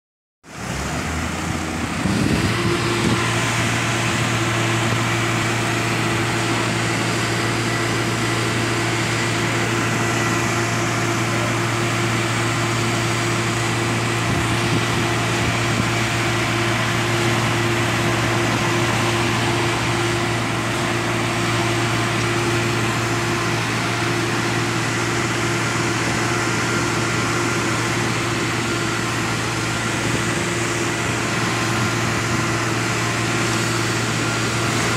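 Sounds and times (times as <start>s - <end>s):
diesel truck engines droning: 0.4s - 34.9s.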